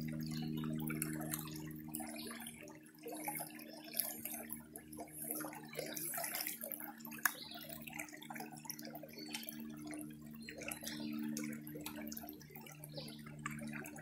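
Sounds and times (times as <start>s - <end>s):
low steady hum: 0.0s - 14.0s
water sloshing in a pan: 0.0s - 14.0s.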